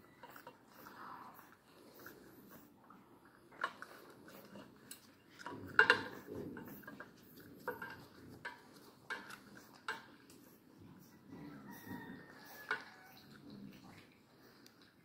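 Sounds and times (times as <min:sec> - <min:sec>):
puppy gnawing hoof: 0:00.0 - 0:15.0.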